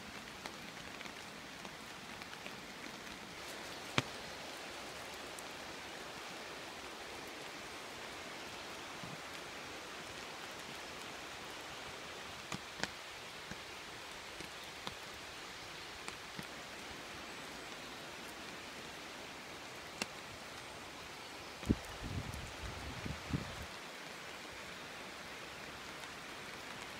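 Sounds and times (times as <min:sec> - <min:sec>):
steady rain hiss: 0:00.0 - 0:26.9.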